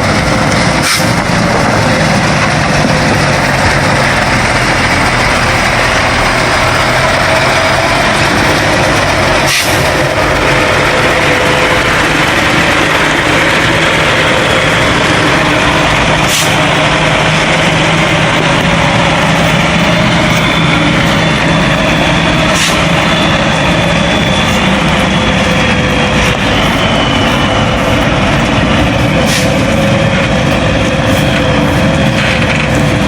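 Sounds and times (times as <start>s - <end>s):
heavy truck engine running: 0.0s - 33.0s.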